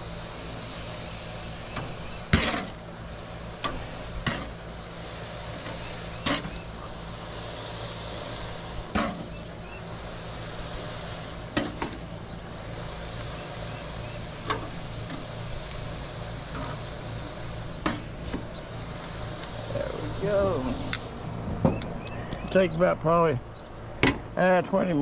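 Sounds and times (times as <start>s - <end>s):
meat sizzling on a grill: 0.0s - 21.4s
steady low hum: 0.0s - 25.0s.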